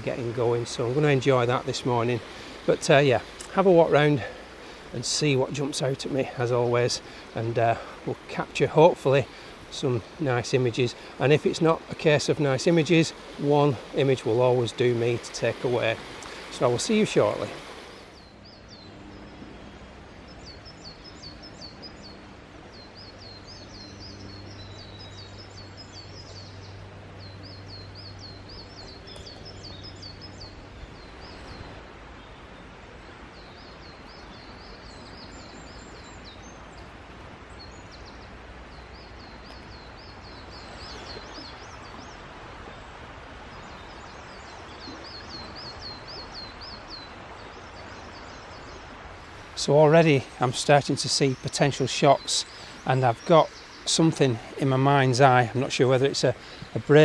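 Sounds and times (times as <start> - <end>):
birds trilling: 0.0 - 57.0
steady background hiss: 0.0 - 57.0.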